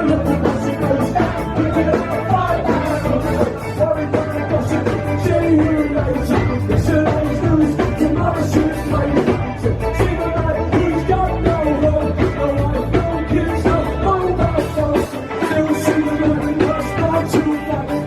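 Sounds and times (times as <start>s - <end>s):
drum beat: 0.0s - 15.0s
live rock band playing: 0.0s - 18.0s
person singing: 0.0s - 18.0s.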